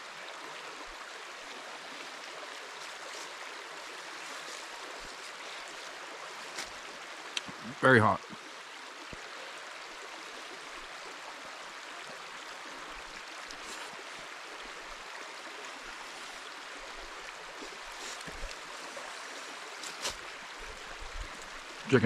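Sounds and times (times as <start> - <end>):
creek rushing: 0.0 - 22.0.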